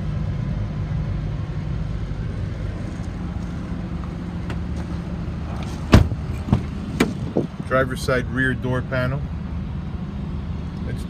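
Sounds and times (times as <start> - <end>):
air conditioning blowing: 0.0 - 11.0
car engine idling: 0.0 - 11.0.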